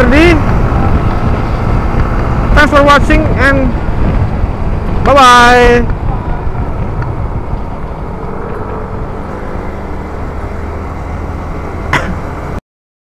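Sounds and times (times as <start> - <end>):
motorcycle engine rumble: 0.0 - 12.6.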